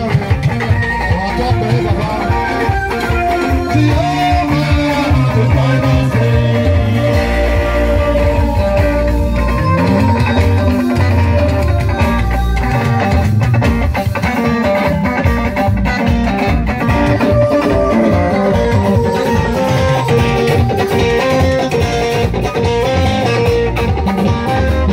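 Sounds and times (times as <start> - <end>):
bass: 0.0 - 24.9
drums: 0.0 - 24.9
electric guitars: 0.0 - 24.9.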